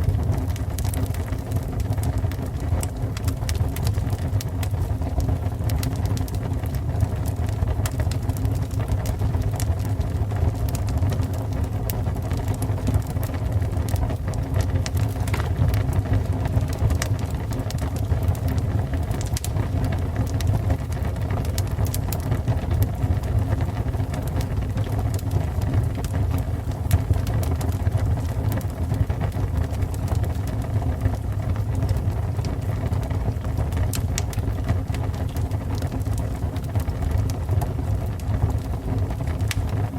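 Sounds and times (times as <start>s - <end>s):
fire burning: 0.0s - 39.9s
fire crackling and popping: 0.0s - 39.9s.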